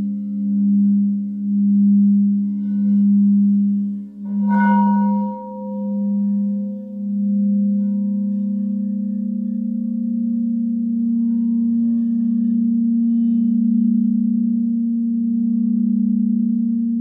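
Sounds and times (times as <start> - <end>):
fainter higher tone: 0.0 - 17.0
singing bowls ringing: 0.0 - 17.0.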